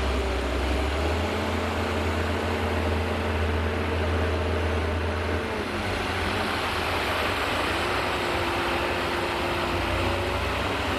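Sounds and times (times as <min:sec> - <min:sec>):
heavy diesel engine running: 0:00.0 - 0:10.9.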